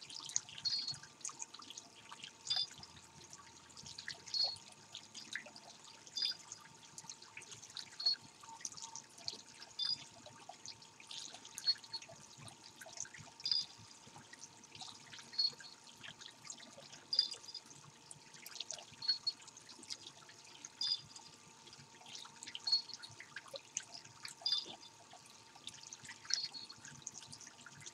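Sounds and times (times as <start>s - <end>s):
faint steady hum: 0.0s - 27.9s
water trickling and dripping: 0.0s - 27.9s.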